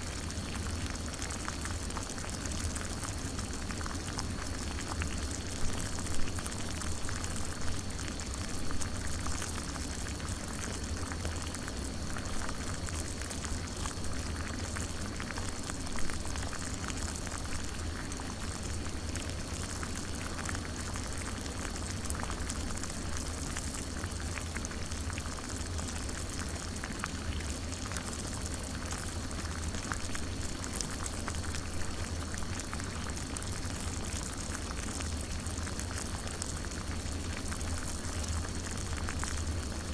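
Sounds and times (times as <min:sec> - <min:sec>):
water boiling in a coffee pot: 0:00.0 - 0:39.9.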